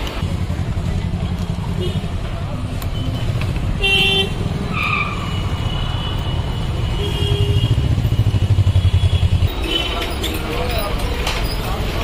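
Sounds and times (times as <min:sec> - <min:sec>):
traffic engines rumbling: 0:00.0 - 0:12.0.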